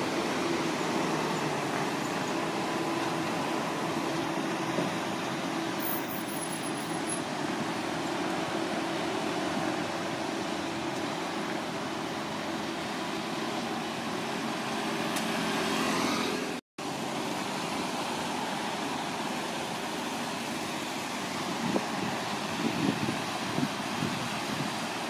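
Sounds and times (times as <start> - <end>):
bus driving past: 0.0 - 25.0
city road traffic: 0.0 - 25.0.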